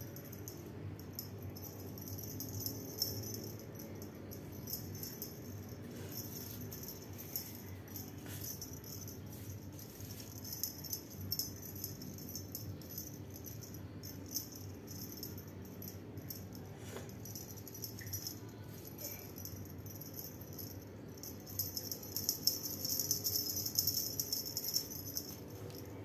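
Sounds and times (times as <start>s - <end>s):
jingle bell cat toy jingling: 0.0s - 26.0s.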